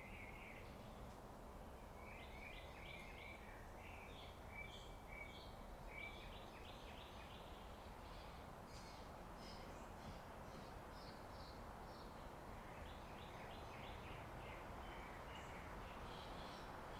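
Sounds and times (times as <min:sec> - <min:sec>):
faint low background noise: 0:00.0 - 0:16.9.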